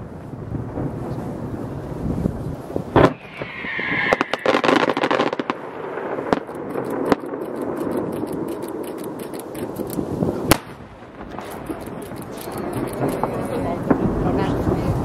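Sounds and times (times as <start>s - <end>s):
fireworks crackling: 0.0s - 15.0s
firework shells bursting: 2.8s - 15.0s.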